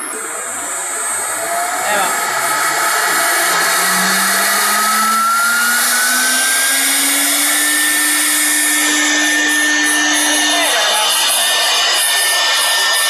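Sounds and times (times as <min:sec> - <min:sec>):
router spindle rushing and whining: 0:00.0 - 0:13.0.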